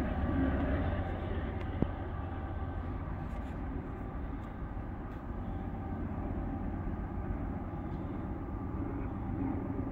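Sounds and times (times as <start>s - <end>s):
distant freight train rumbling: 0.0s - 9.9s.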